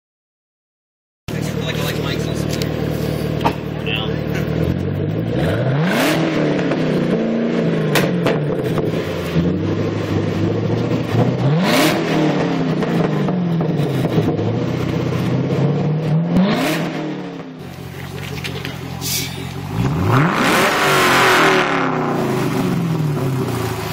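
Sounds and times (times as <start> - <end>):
car engine revving: 1.3 - 23.9.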